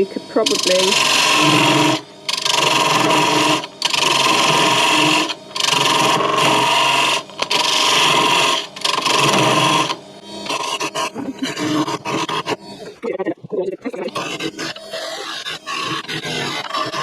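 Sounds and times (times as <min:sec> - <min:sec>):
turning tool cutting wood: 0:00.0 - 0:17.0
wood lathe spinning: 0:00.0 - 0:17.0.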